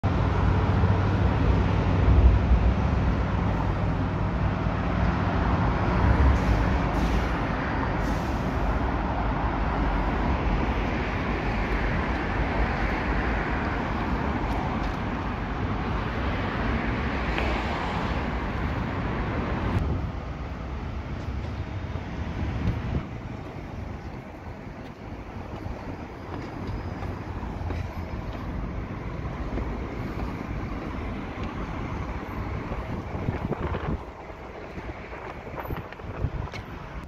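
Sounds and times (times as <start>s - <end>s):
traffic noise: 0.0s - 37.0s.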